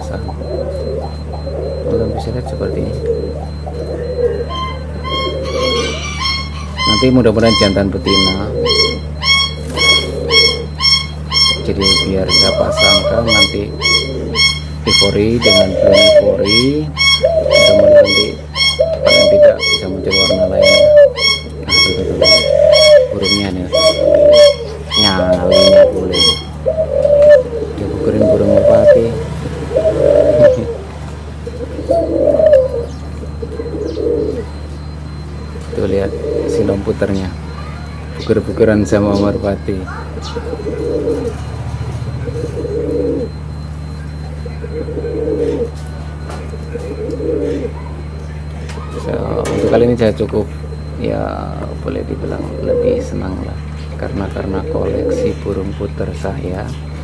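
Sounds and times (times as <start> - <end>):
doves cooing: 0.0 - 57.0
high chirps: 0.0 - 57.0
steady low hum: 0.0 - 57.0.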